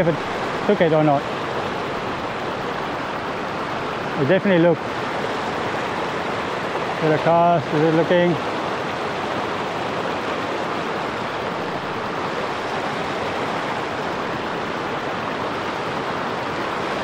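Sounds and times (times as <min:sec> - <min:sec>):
river water running over stones: 0:00.0 - 0:17.0.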